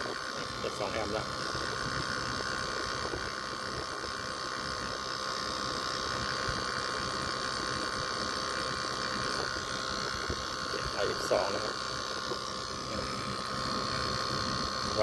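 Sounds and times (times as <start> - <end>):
air conditioner compressor humming: 0.0 - 15.0
steady high whine: 0.0 - 15.0.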